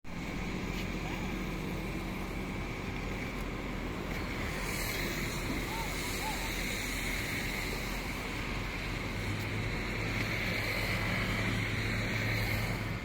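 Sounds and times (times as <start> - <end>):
motorboat engine running: 0.1 - 13.0.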